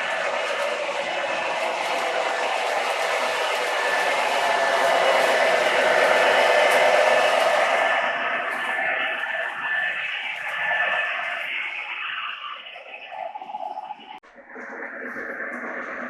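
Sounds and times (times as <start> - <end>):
model train whirring on track: 0.0 - 16.0.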